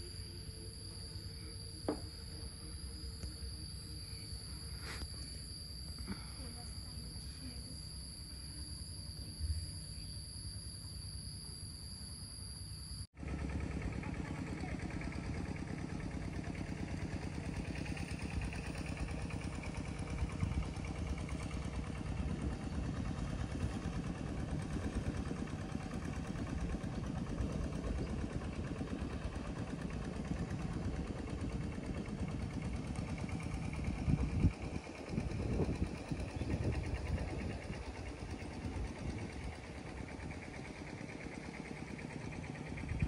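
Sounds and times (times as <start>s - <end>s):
small engine idling: 0.0s - 11.8s, 13.0s - 43.0s.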